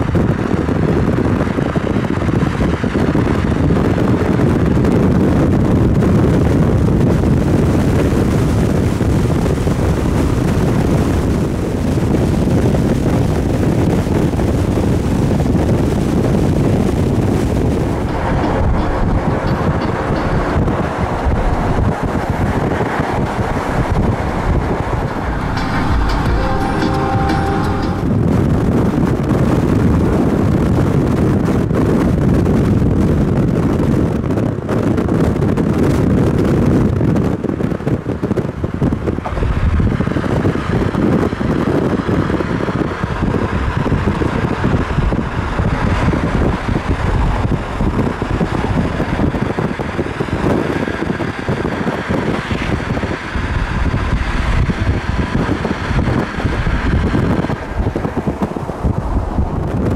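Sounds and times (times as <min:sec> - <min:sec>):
road and wind noise: 0:00.0 - 0:59.9
wind buffeting microphone: 0:00.0 - 0:59.9.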